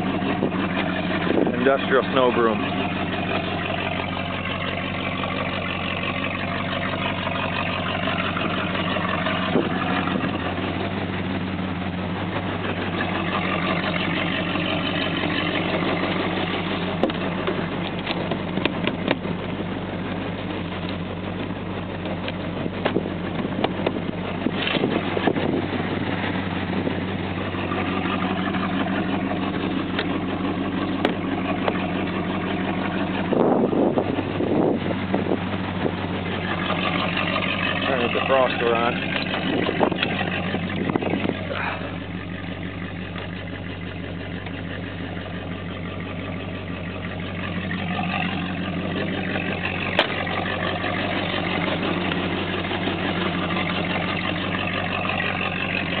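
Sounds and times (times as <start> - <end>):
pickup engine idling: 0.0 - 56.0.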